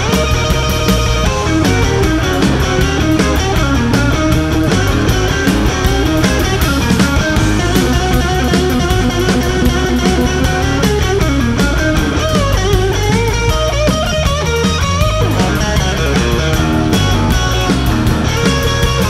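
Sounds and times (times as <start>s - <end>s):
electric guitar riffs: 0.0s - 19.0s
steady drum beat: 0.0s - 19.0s.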